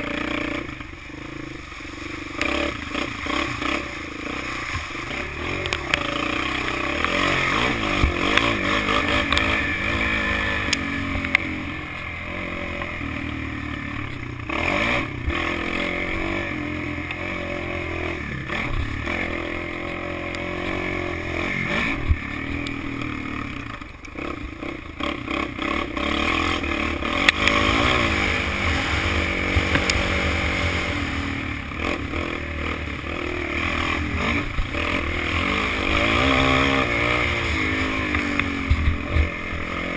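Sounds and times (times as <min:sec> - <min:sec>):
quad engine revving: 0:00.0 - 0:39.9
quad rattling over rough ground: 0:00.0 - 0:39.9.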